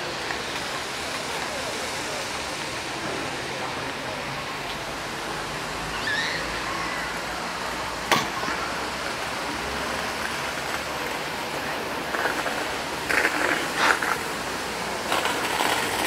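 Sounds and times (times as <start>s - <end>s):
steady rushing noise: 0.0s - 5.9s, 6.5s - 16.0s.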